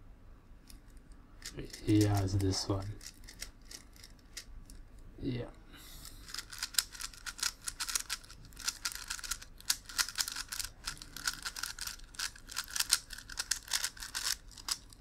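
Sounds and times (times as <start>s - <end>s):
puzzle cube clicking and scraping: 0.7s - 5.0s, 6.0s - 15.0s.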